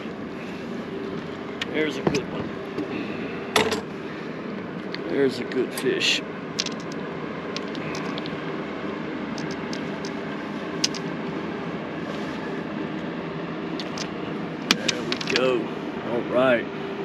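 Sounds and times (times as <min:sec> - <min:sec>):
faint constant tone: 0:00.0 - 0:17.0
steady mechanical hum: 0:00.0 - 0:17.0.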